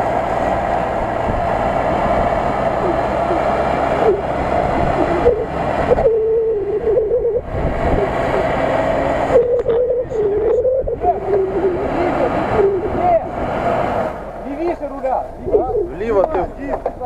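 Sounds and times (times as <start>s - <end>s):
car engine revving hard: 0.0s - 14.5s.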